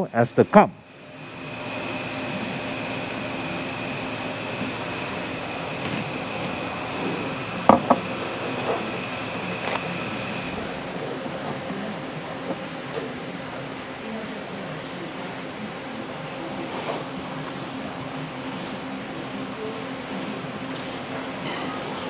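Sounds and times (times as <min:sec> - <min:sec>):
electric motor humming: 0:00.0 - 0:22.0
faint high whine: 0:00.0 - 0:22.0.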